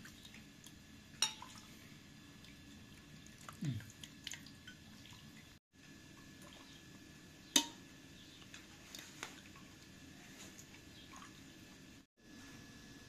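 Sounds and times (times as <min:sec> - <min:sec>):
faint liquid cooking sounds: 0:00.0 - 0:13.0.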